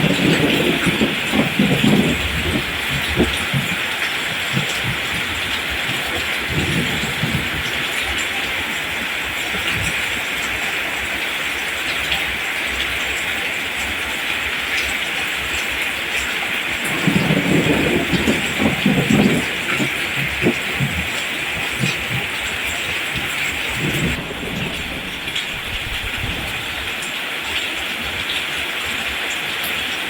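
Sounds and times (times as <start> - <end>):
rain falling on plants: 0.0 - 30.0.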